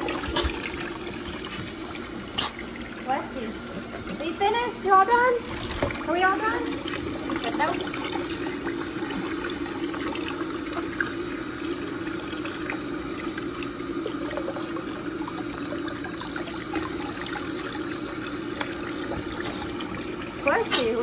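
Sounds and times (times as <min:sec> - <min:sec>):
faucet running into full sink: 0:00.0 - 0:21.0.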